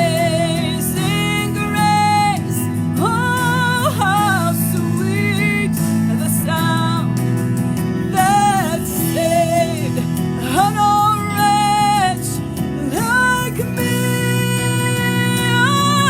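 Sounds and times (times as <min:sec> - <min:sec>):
person singing with vibrato: 0:00.0 - 0:16.0
sustained instrumental accompaniment: 0:00.0 - 0:16.0.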